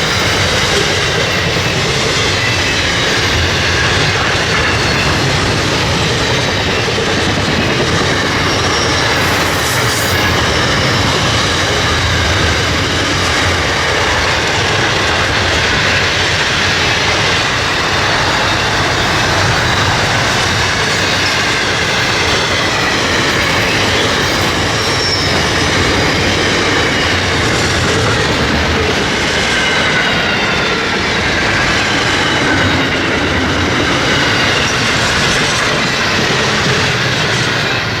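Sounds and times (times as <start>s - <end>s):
train wheels rolling on rail: 0.0s - 38.0s.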